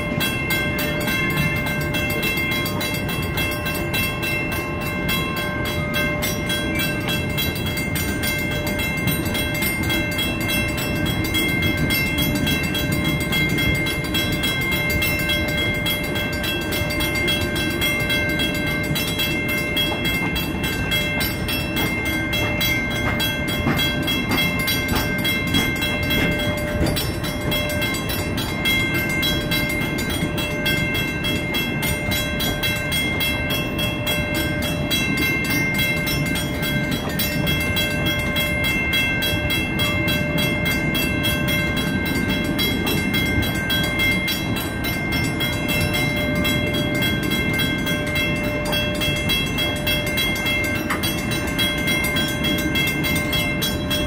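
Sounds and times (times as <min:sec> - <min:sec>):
crossing signal bell ringing: 0:00.0 - 0:54.0
train wheels rumbling and clacking: 0:00.0 - 0:54.0.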